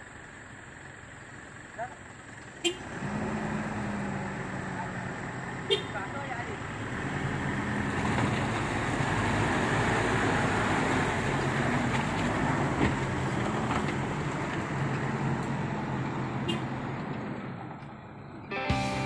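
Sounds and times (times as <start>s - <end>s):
truck engines running under load: 0.0s - 18.5s.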